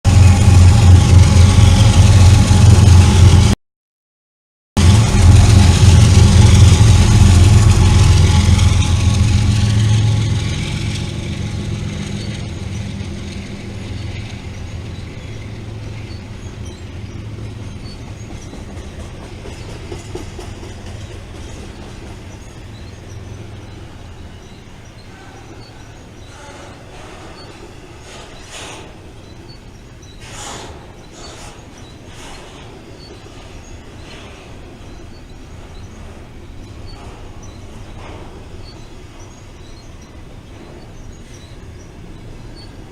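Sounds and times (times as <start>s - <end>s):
diesel locomotive engine rumble: 0.0s - 3.6s, 4.8s - 42.9s
train cars rolling: 0.0s - 3.6s, 4.8s - 42.9s.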